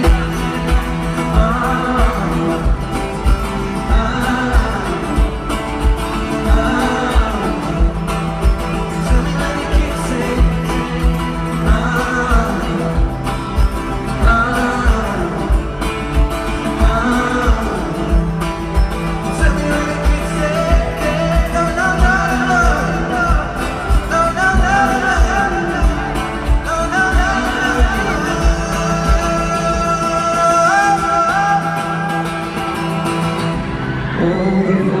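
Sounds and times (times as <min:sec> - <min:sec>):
live guitar rock music: 0:00.0 - 0:35.0
person singing: 0:00.0 - 0:35.0.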